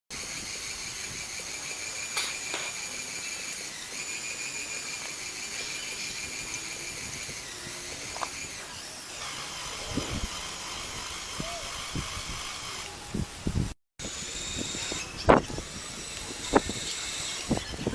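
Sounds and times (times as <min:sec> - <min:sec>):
electric motors whining: 0:00.1 - 0:17.9.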